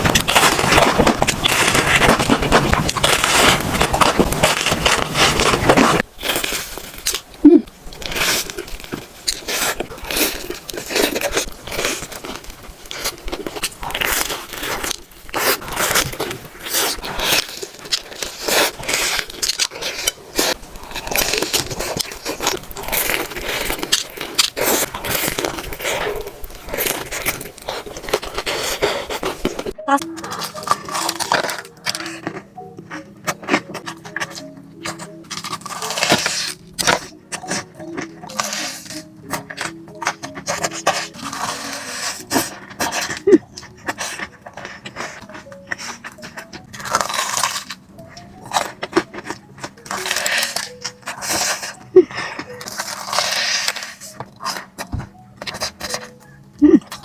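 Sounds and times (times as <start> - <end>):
chewing: 0.0 - 57.0
crispy batter crunching: 0.0 - 57.0.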